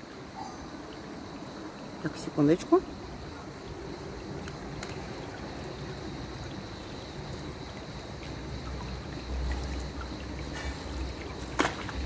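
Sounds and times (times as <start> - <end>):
pool water trickling and sloshing: 0.0 - 12.0.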